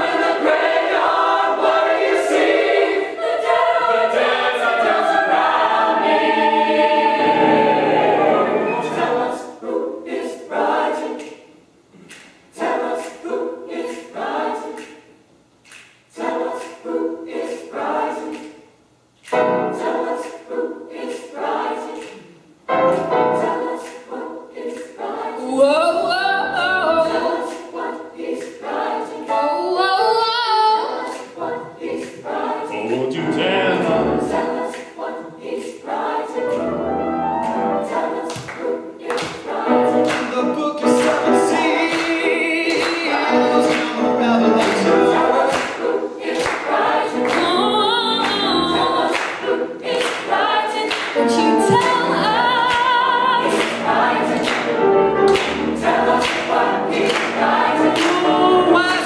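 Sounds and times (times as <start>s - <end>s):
choir singing: 0.0s - 15.2s, 16.1s - 59.0s.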